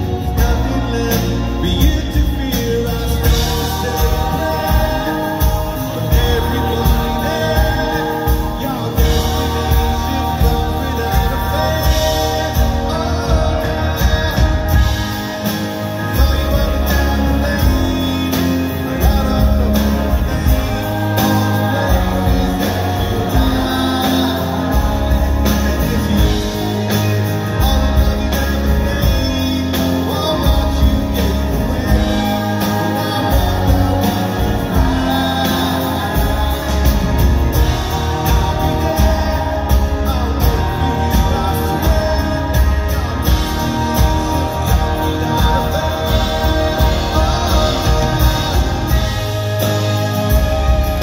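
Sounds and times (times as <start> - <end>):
bass guitar: 0.0 - 51.0
drums: 0.0 - 51.0
electric guitar: 0.0 - 51.0
man singing lead: 0.0 - 51.0
strummed acoustic guitar: 0.0 - 51.0.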